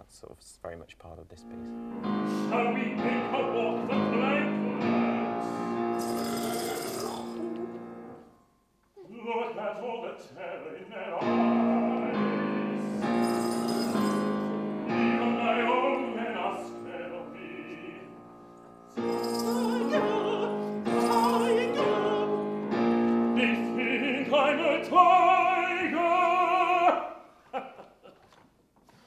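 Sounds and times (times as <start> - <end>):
operatic singing with vibrato: 2.0 - 7.8, 9.0 - 18.4, 19.0 - 27.3.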